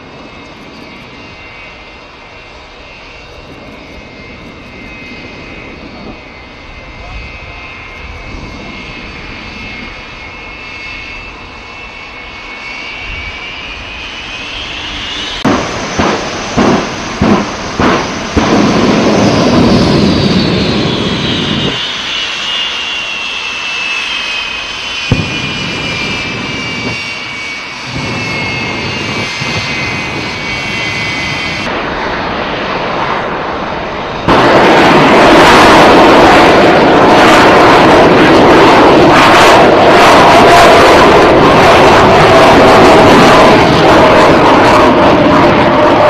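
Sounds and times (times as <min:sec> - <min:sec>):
jet engine whine and roar: 0:00.0 - 0:46.0
loud steady jet roar: 0:00.0 - 0:46.0.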